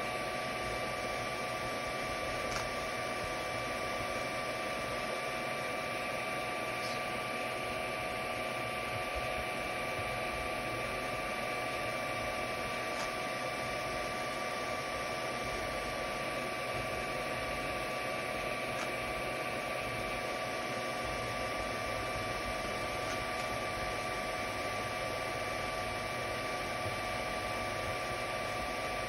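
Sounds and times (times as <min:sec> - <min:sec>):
cooling fans whirring: 0:00.0 - 0:29.0.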